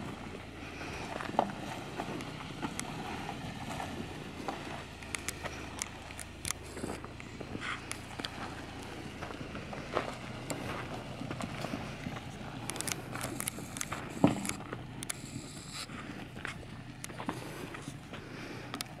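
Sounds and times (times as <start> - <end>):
faint low engine hum: 0.0 - 19.0
gravel and rock crunching: 0.0 - 19.0.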